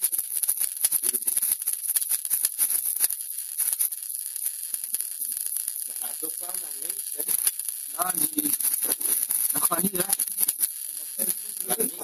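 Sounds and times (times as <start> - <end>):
electric spark crackling: 0.0 - 12.0
steady high-pitched hiss: 0.0 - 12.0.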